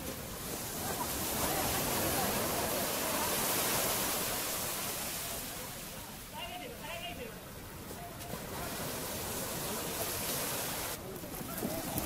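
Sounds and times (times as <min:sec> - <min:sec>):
shallow surf washing: 0:00.0 - 0:12.0.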